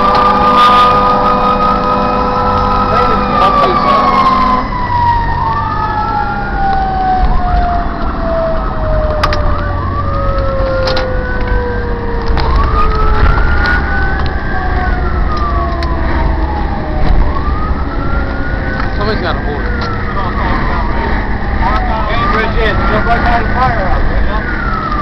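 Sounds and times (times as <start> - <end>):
engine and road rumble: 0.0 - 25.0
fire engine siren wailing: 0.0 - 25.0
siren tone winding down: 0.0 - 25.0.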